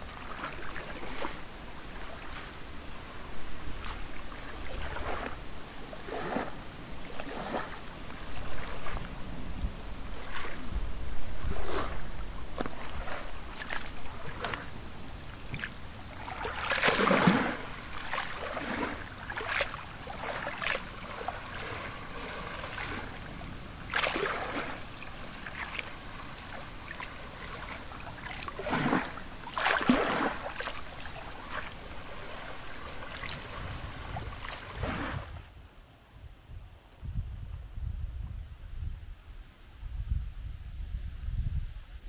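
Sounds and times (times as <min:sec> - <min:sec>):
small waves lapping: 0:00.0 - 0:35.6.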